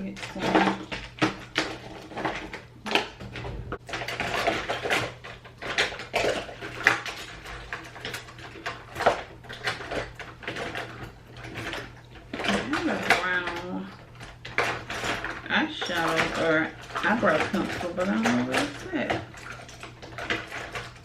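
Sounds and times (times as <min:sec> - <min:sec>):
makeup items clicking and clattering: 0:00.0 - 0:21.0.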